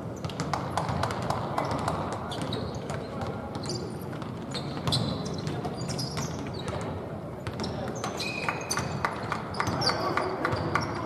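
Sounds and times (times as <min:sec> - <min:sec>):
basketball bouncing on court: 0:00.2 - 0:11.0
hubbub of voices: 0:01.1 - 0:11.0
shoe squeaks: 0:01.6 - 0:11.0.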